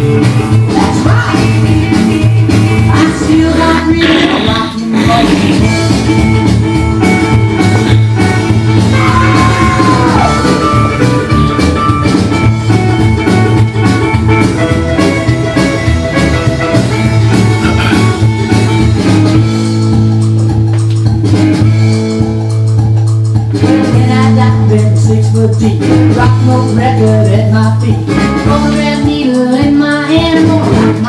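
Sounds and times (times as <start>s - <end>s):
rockabilly music with electric guitar: 0.0s - 31.0s.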